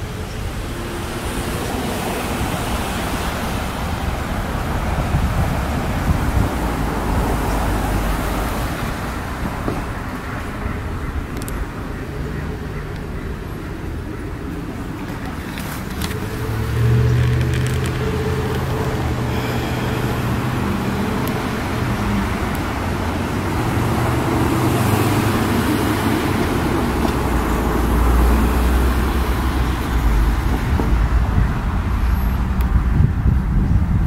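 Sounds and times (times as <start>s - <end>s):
traffic hiss: 0.0s - 33.9s
vehicle engine hum: 0.0s - 34.0s.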